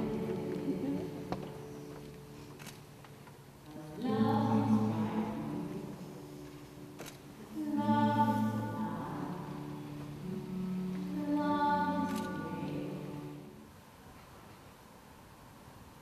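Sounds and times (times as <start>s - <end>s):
slow processional music with singing: 0.0s - 14.2s.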